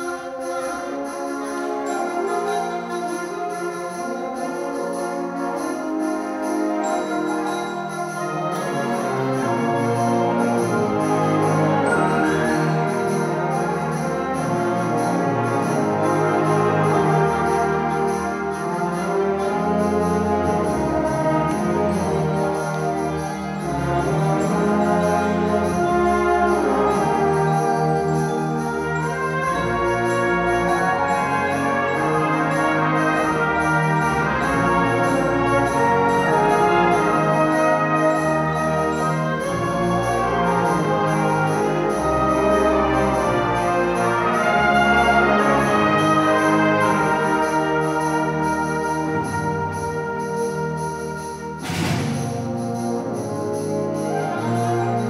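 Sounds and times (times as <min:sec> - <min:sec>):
concert band playing: 0:00.0 - 0:55.0.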